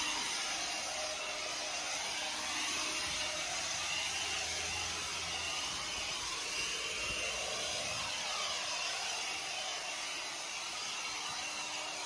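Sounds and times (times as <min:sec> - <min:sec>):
cordless blower running: 0:00.0 - 0:12.0.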